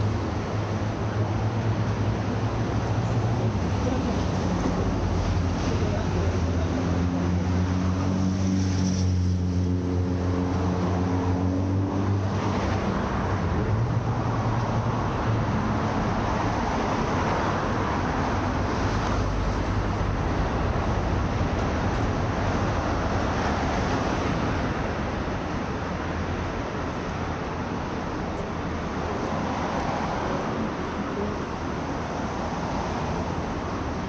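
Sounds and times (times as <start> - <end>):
rush of passing traffic: 0.0 - 34.0.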